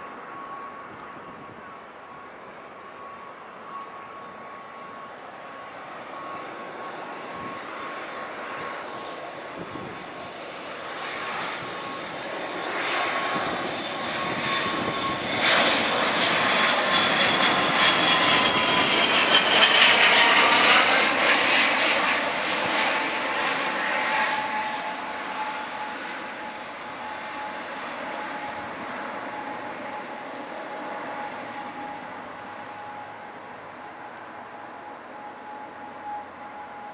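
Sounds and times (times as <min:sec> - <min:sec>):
turboprop airliner passing overhead: 0:00.0 - 0:36.9.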